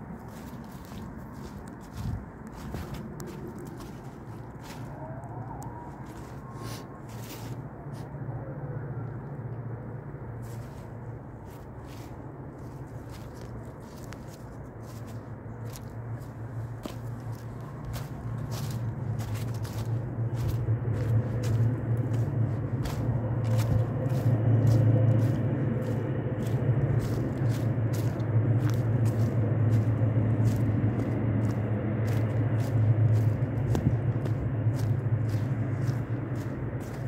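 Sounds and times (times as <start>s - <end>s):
footsteps crunching dry leaves: 0.0s - 8.1s, 10.4s - 37.0s
steady low rumble: 0.0s - 37.0s.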